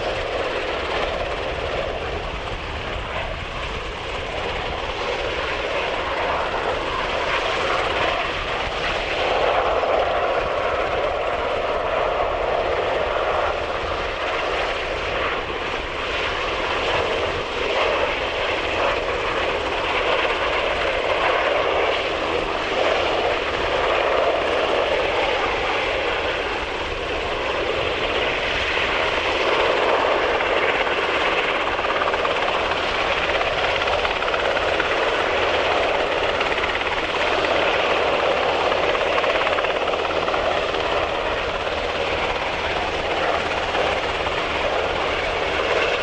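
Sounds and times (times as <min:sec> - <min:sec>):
helicopter engines and rotor: 0:00.0 - 0:46.0.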